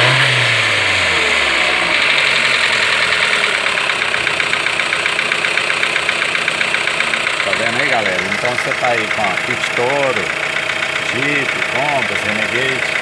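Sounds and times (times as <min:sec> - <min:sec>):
car engine idling with ticking: 0:00.0 - 0:13.0.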